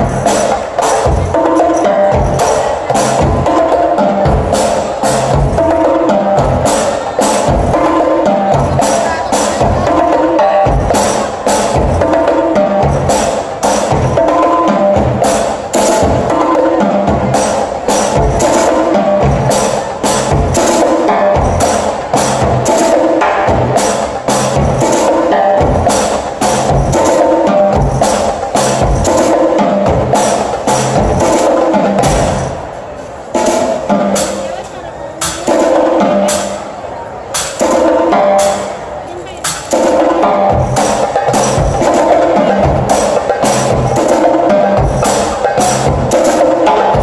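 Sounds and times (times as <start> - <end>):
drum ensemble playing: 0.0 - 47.0.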